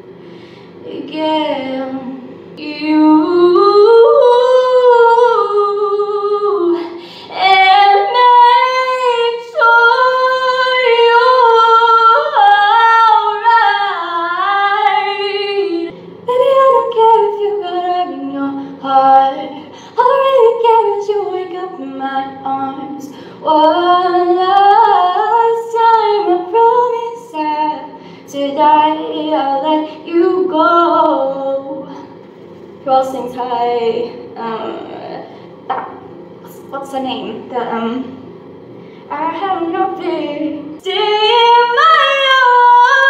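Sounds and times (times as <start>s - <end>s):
woman singing unaccompanied: 0.8s - 32.1s, 32.8s - 35.3s, 39.1s - 43.0s.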